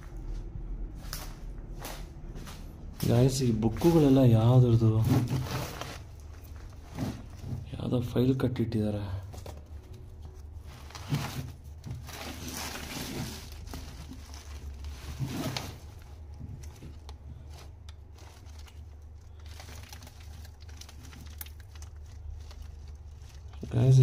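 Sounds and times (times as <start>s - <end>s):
paper rustling and crinkling: 3.0s - 8.1s, 9.2s - 24.0s.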